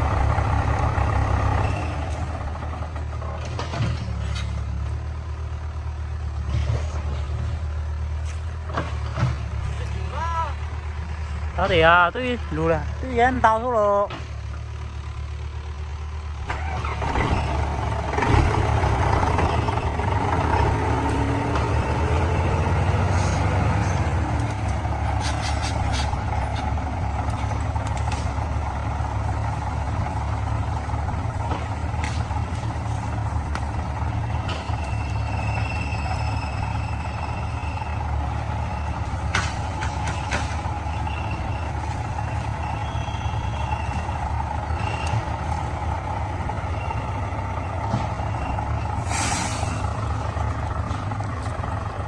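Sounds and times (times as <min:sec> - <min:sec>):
heavy diesel engine under load: 0:00.0 - 0:52.0.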